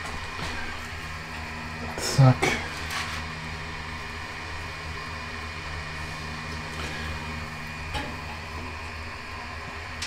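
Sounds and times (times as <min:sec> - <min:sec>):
blower fan humming: 0:00.0 - 0:10.0.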